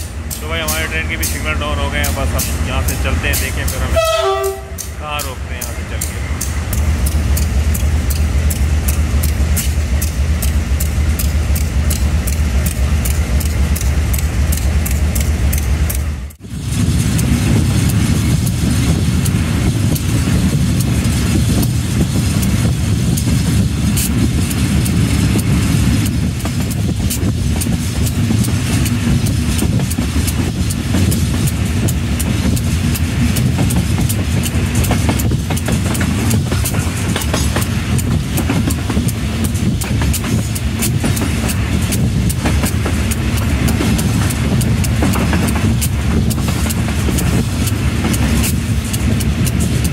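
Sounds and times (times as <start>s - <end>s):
locomotive engine drone: 0.0s - 49.9s
train rumbling along track: 0.0s - 49.9s.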